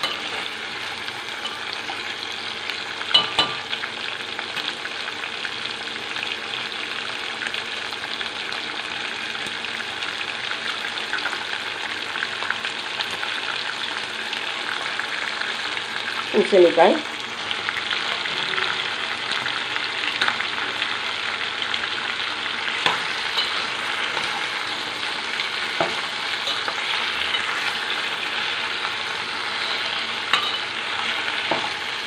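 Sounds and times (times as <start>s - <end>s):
vegetables sizzling in hot oil: 0.0s - 32.0s.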